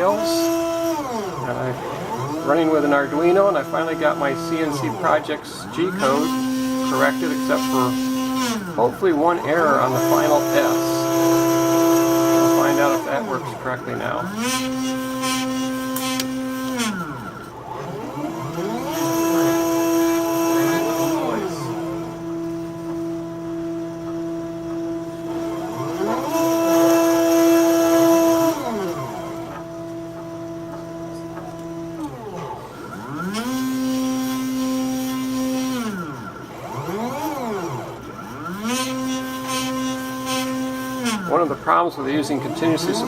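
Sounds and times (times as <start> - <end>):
stepper motors whining: 0.0 - 43.0.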